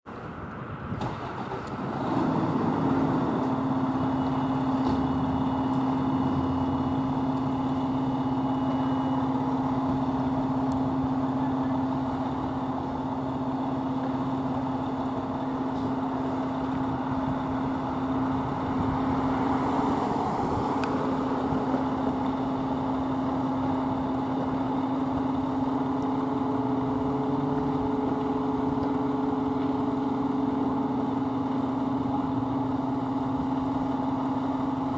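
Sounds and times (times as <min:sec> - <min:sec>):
fire engine engine droning: 0:00.1 - 0:34.9
higher engine tone: 0:00.1 - 0:34.9.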